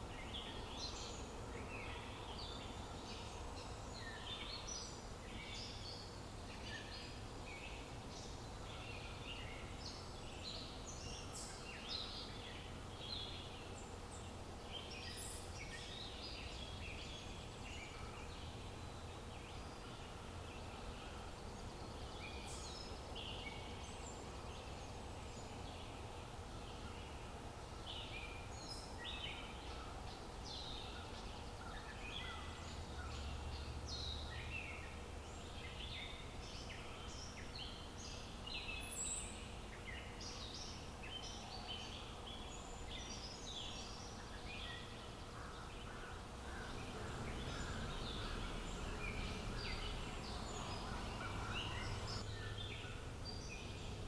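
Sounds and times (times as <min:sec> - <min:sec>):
low outdoor background hiss: 0:00.0 - 0:54.0
small songbirds chirping: 0:00.0 - 0:54.0.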